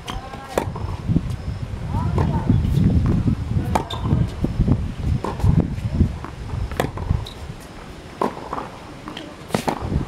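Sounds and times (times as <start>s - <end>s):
tennis balls struck by rackets: 0.0s - 1.0s, 2.0s - 4.2s, 5.2s - 10.0s.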